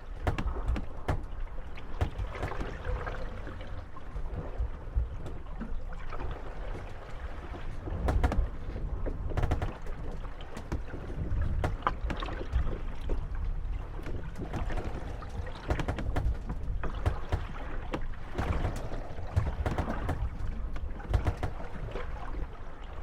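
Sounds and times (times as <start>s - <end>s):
water washing: 0.0s - 4.4s, 6.2s - 23.0s
wind: 0.0s - 23.0s
wooden boats knocking and creaking: 0.0s - 23.0s.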